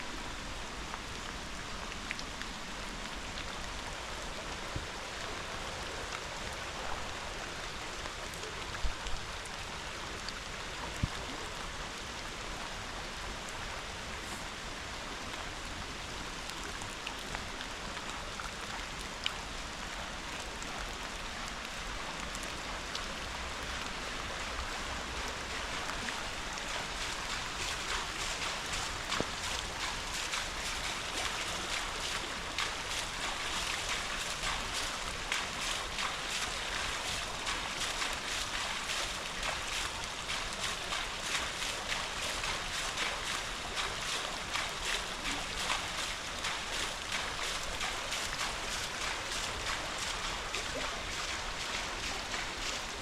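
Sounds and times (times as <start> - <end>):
rain: 0.0 - 53.0
rushing river water: 0.0 - 53.0.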